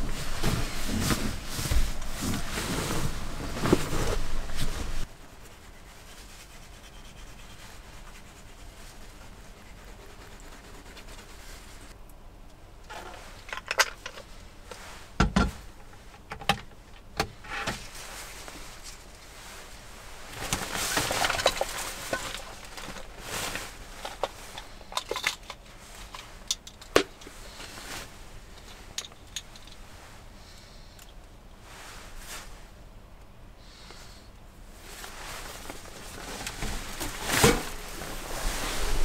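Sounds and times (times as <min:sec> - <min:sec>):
rustling: 0:00.0 - 0:12.0, 0:17.4 - 0:31.0, 0:31.6 - 0:32.8, 0:33.6 - 0:39.0.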